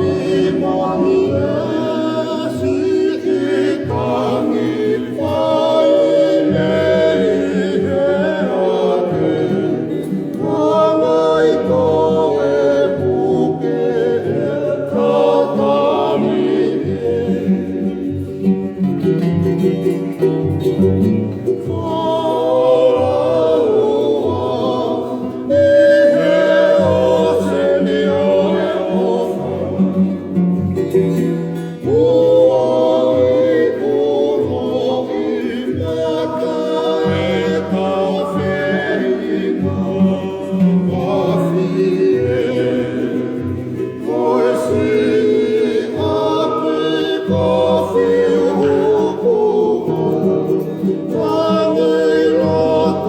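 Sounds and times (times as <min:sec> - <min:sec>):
group singing in harmony: 0:00.0 - 0:53.0
strummed strings: 0:00.0 - 0:53.0.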